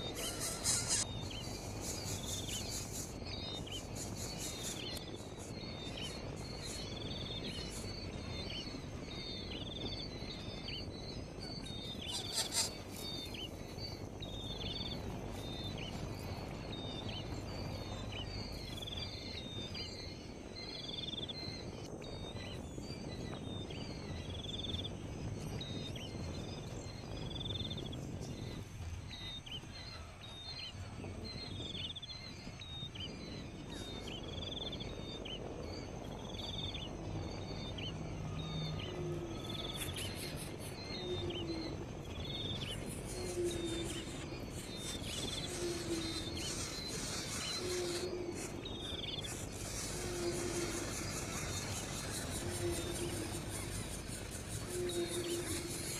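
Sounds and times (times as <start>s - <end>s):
background noise: 0.0s - 55.9s.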